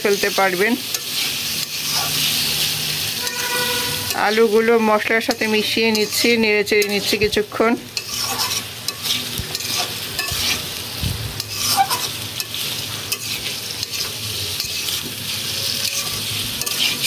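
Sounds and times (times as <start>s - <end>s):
potatoes sizzling in pan: 0.0s - 17.0s
spatula scraping pan: 0.8s - 7.3s, 7.9s - 10.8s, 11.4s - 17.0s.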